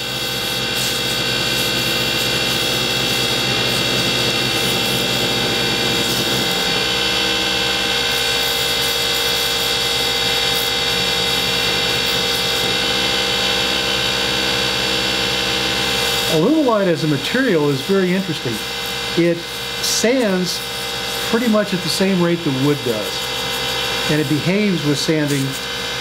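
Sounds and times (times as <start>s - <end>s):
wood lathe motor whine: 0.0s - 26.0s.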